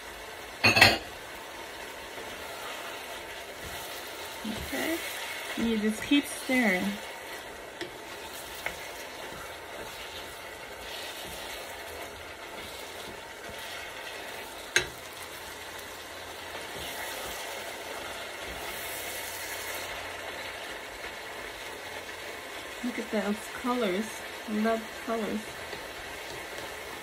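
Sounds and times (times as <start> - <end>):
meat and vegetables sizzling in pan: 0.0 - 27.0
wooden spoon stirring and scraping: 1.7 - 22.2, 22.9 - 27.0.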